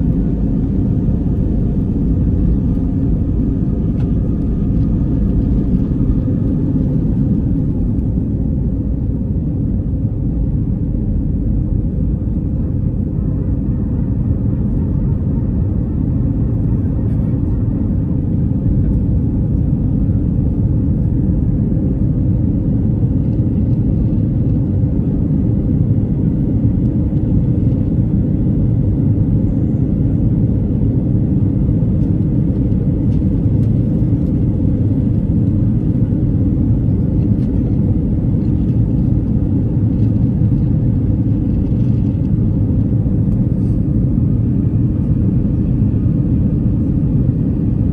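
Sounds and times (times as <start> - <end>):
airplane engines rumbling: 0.0 - 47.9.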